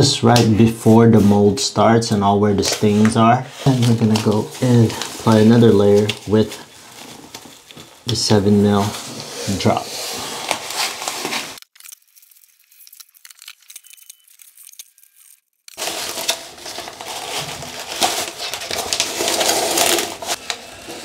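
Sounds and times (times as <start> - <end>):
plastic sheet crinkling: 2.6 - 21.0.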